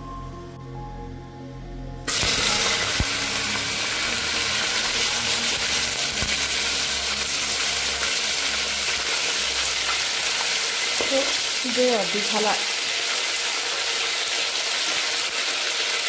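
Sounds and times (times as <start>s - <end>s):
bones sizzling in hot oil: 2.1s - 16.0s.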